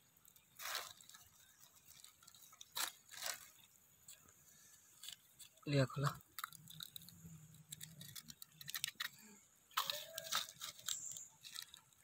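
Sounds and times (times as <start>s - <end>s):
plastic bag crinkling: 0.2s - 4.3s, 4.9s - 12.0s.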